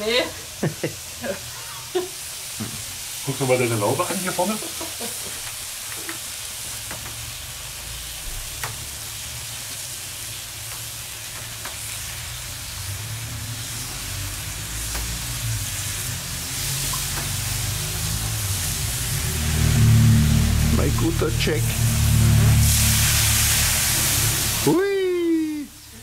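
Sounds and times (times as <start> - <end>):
fruit sizzling on hot plate: 0.0 - 26.0.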